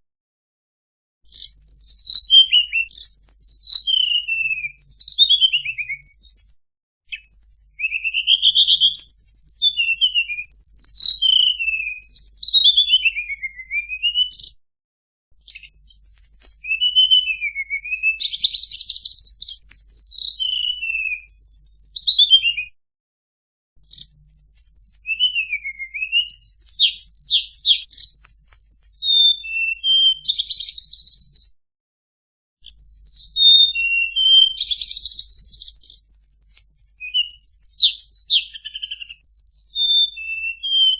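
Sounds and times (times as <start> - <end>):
songbird singing: 1.3 - 14.6, 15.4 - 22.7, 23.8 - 31.5, 32.7 - 40.9.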